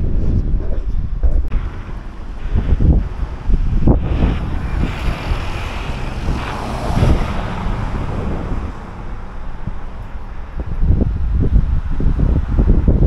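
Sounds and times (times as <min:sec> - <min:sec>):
street traffic: 0:00.0 - 0:13.0
wind buffeting microphone: 0:00.0 - 0:13.0.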